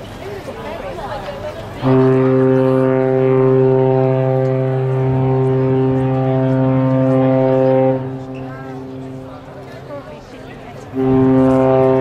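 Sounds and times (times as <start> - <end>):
ship horn low blast: 1.6 - 12.0.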